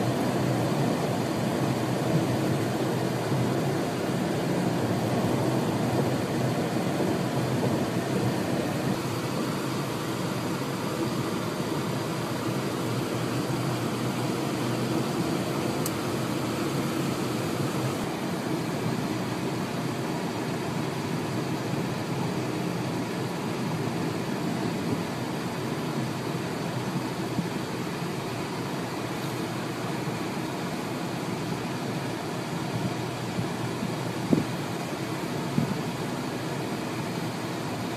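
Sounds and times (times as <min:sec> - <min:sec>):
car road and engine noise: 0:00.0 - 0:37.9.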